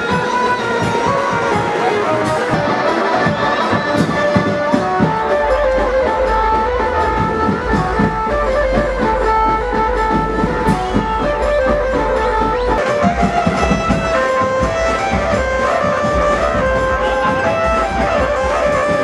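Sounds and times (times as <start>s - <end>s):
plucked guitar-like melody: 0.0s - 19.0s
steady drum beat: 0.0s - 19.0s.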